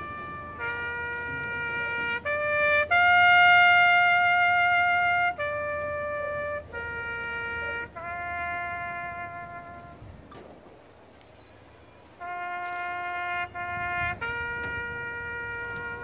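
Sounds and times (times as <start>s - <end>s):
brass horn playing long notes: 0.0s - 10.2s, 12.2s - 16.0s.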